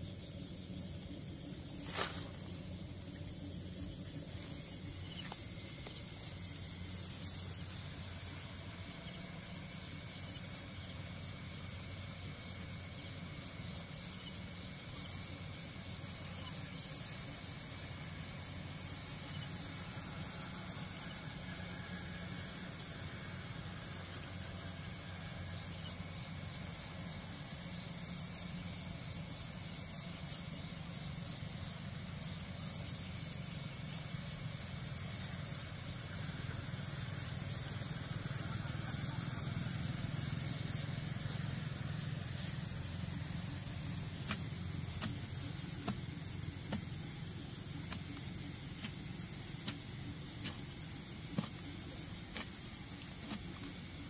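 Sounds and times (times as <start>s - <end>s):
faint short insect calls: 0.0s - 54.0s
insects chorus: 0.0s - 54.0s
low steady hum: 0.0s - 54.0s.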